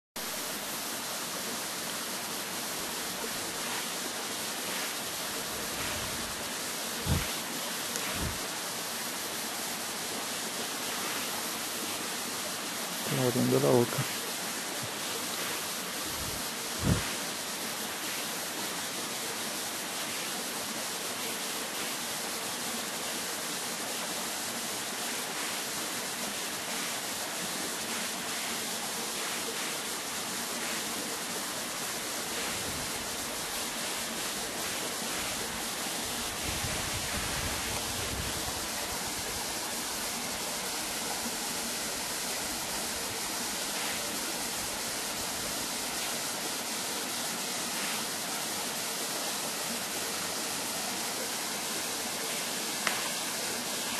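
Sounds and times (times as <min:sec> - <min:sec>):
steady rushing hiss: 0:00.2 - 0:53.9.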